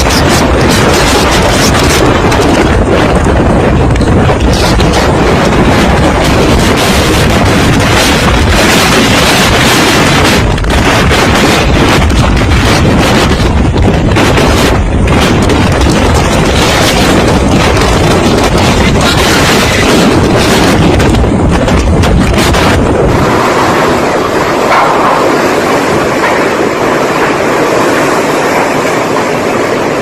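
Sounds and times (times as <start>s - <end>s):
hurricane wind blowing: 0.0s - 30.0s
wind buffeting microphone: 0.0s - 30.0s.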